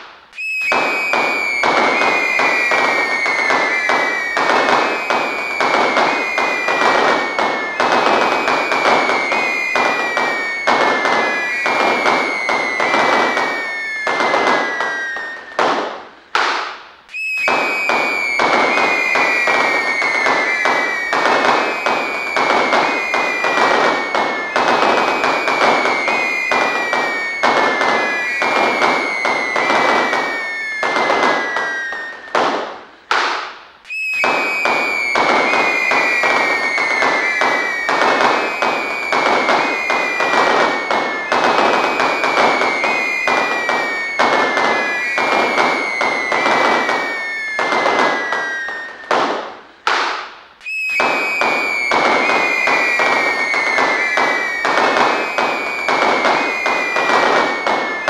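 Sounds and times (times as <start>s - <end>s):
falling firework whistles: 0.0s - 58.0s
fireworks crackling: 0.0s - 58.0s.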